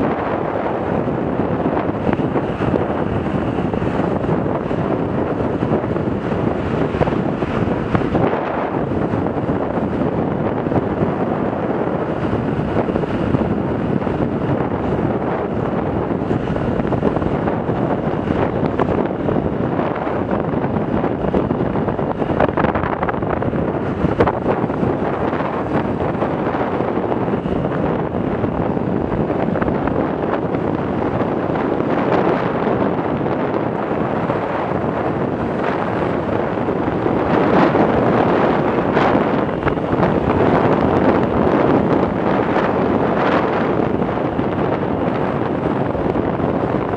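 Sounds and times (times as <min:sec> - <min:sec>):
road noise: 0:00.0 - 0:46.9
wind roaring over microphone: 0:00.0 - 0:46.9.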